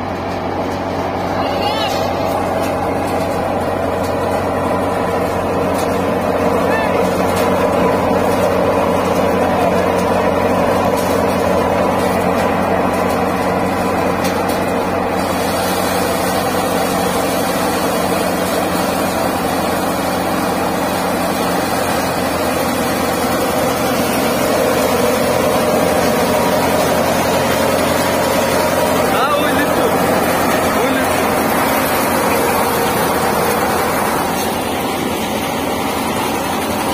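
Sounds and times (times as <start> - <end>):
thresher machine hum: 0.0 - 36.9.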